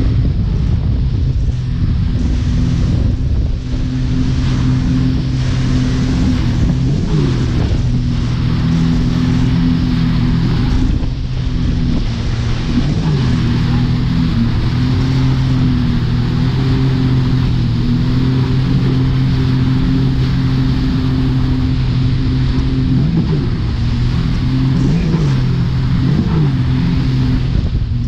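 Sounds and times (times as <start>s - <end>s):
rushing water: 0.0s - 28.0s
speedboat engine running: 0.0s - 28.0s.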